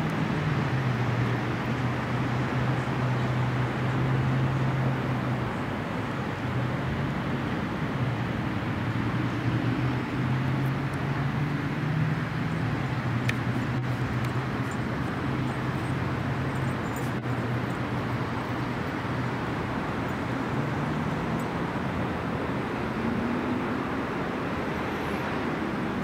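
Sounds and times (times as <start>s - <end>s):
road traffic rushing: 0.0s - 26.0s
vehicle engine low hum: 0.0s - 26.0s.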